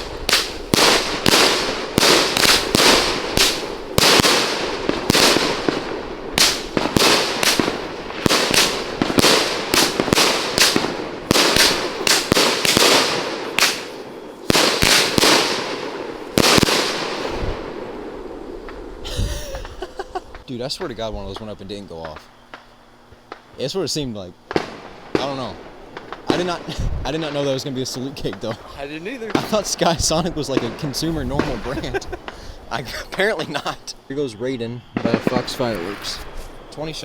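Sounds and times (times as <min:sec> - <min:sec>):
fireworks aerial bangs: 0:00.0 - 0:37.0.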